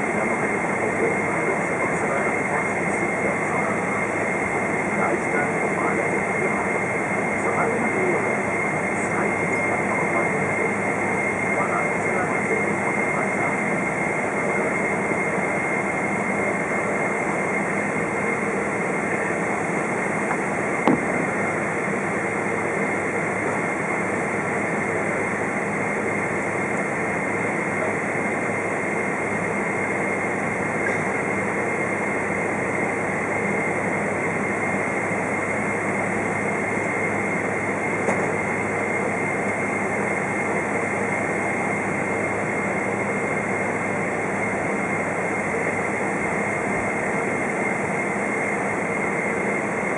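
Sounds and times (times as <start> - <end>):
jet engines idling whine: 0.0 - 49.9.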